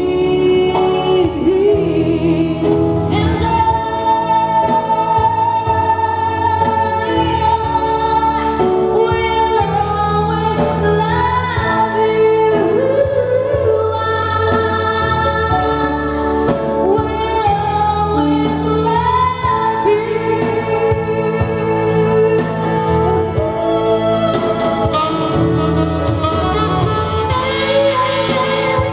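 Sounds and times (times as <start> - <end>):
long held bass notes: 0.0 - 28.9
synthesizer slow song: 0.0 - 28.9.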